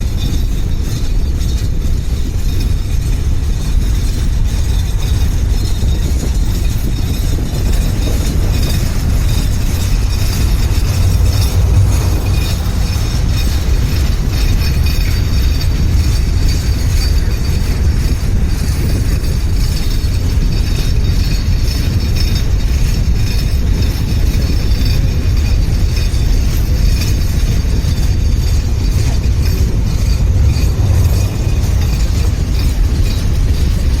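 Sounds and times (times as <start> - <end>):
train rumbling over rail bridge: 0.0 - 34.0.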